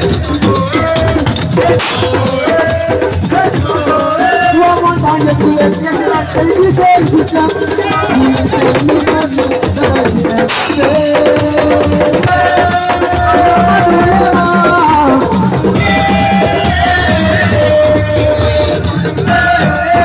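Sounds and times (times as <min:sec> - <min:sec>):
fast dense drumming: 0:00.0 - 0:20.0.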